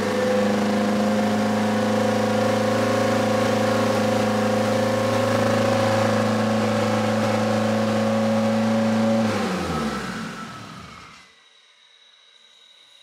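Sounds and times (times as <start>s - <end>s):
car engine high idle: 0.0s - 11.2s
engine winding down: 0.0s - 11.4s.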